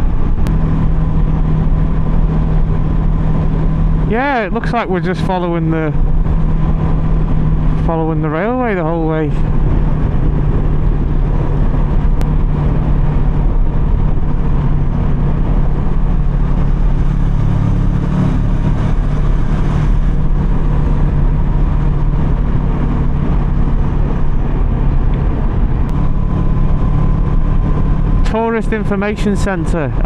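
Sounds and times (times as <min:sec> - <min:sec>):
motorcycle engine cruising: 0:00.0 - 0:30.0
road noise: 0:00.0 - 0:30.0.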